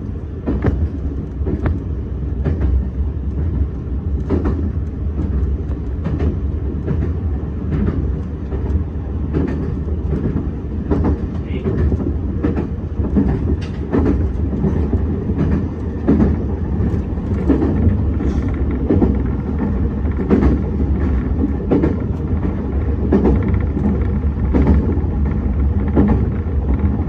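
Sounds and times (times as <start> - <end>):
train low rumble: 0.0 - 27.0
wheels clicking over rail joints: 0.0 - 27.0.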